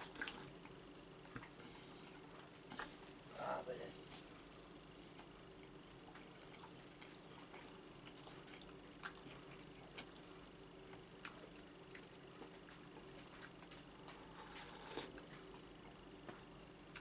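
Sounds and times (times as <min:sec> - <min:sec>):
man chewing: 0:00.0 - 0:03.1, 0:04.1 - 0:17.0
faint steady hum: 0:00.0 - 0:17.0.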